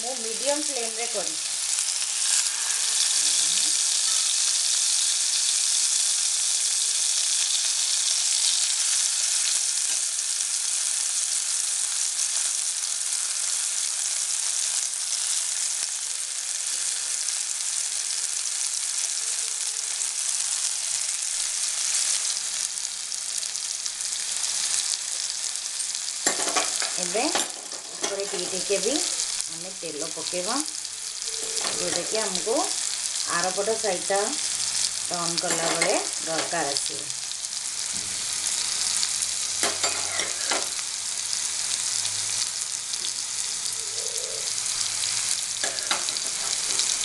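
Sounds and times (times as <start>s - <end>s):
meat sizzling in hot oil: 0.0s - 47.0s.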